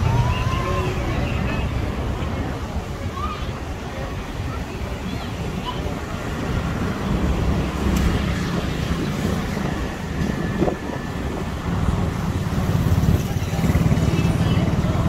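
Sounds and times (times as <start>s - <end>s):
loud low street rumble: 0.0s - 15.0s.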